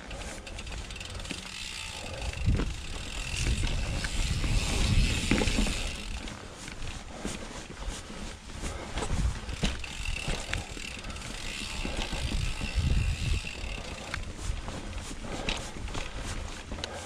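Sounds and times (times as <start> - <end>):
bike drivetrain clicks and knocks: 0.0 - 17.0
bike tyres rolling over dirt: 0.0 - 17.0.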